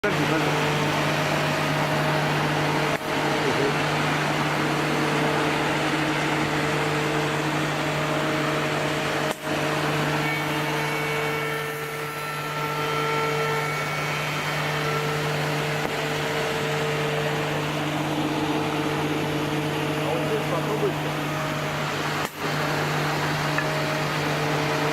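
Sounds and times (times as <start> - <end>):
woodworking machine running: 0.0 - 24.9.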